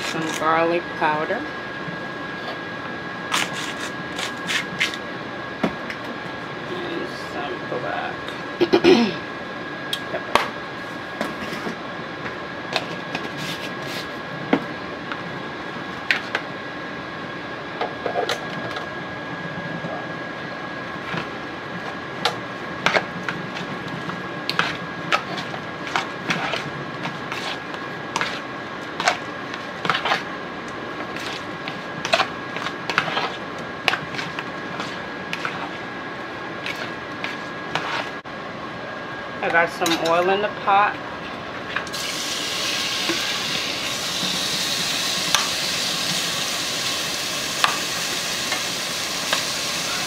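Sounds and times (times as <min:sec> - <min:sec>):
steady high-pitched hum: 0:00.0 - 0:50.0.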